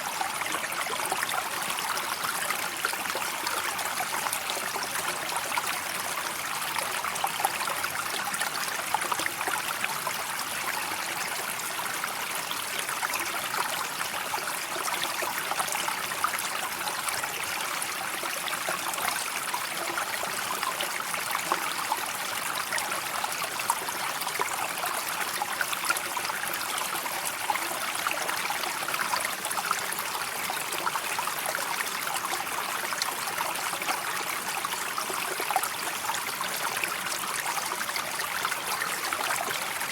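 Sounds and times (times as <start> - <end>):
river water flowing and trickling: 0.0 - 39.9.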